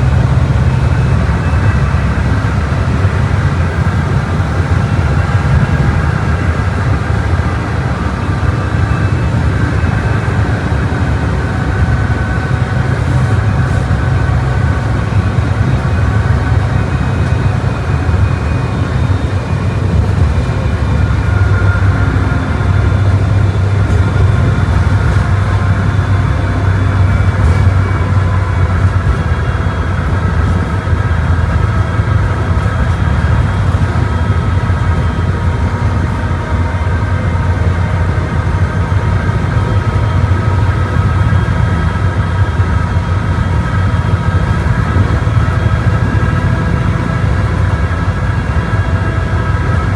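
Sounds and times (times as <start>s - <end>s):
bus engine low drone: 0.0s - 49.9s
tyres whining on road: 0.0s - 49.9s.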